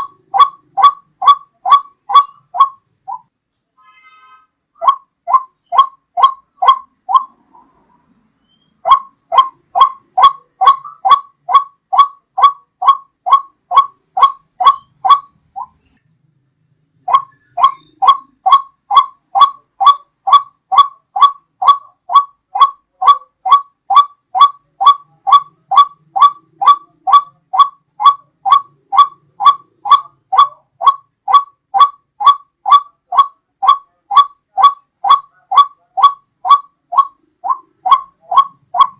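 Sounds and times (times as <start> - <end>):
waterhen calling: 0.0 - 3.3, 4.8 - 7.8, 8.4 - 16.0, 17.0 - 38.9.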